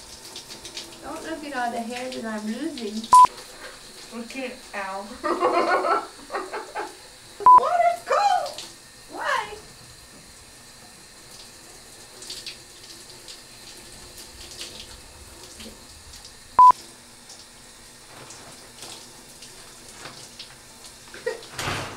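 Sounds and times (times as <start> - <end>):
shower water running: 0.0 - 21.9.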